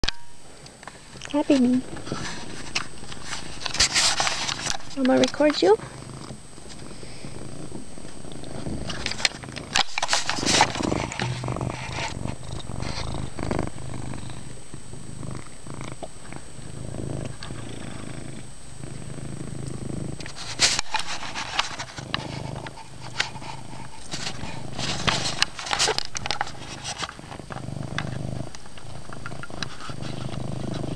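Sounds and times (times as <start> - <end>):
cat purring: 0.1 - 30.9.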